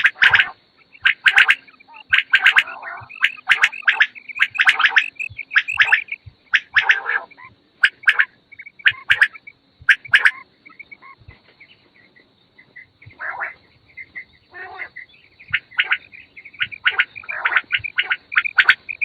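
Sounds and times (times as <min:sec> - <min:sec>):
quails calling: 0:00.0 - 0:19.0.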